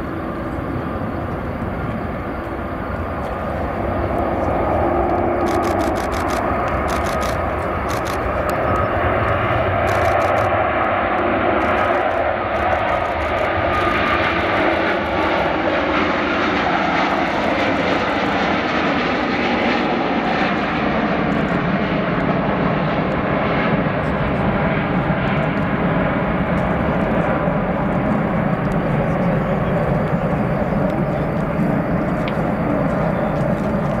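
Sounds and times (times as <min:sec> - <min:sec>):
jet engines at takeoff: 0:00.0 - 0:34.0.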